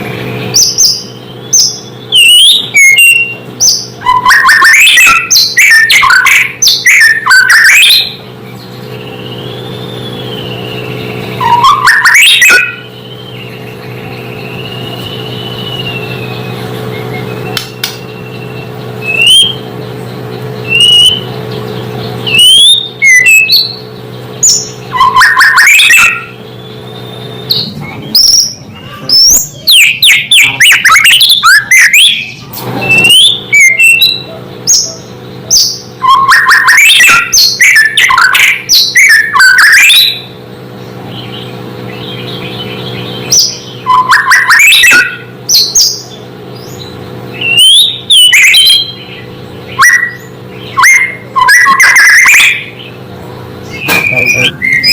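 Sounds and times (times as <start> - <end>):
bird singing whistles and trills: 0.1 - 53.0, 53.6 - 54.9.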